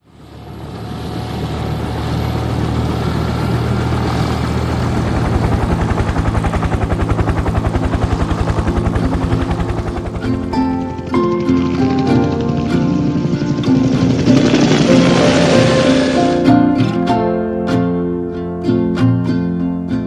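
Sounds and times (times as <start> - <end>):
helicopter engine and rotor: 0.0 - 17.1.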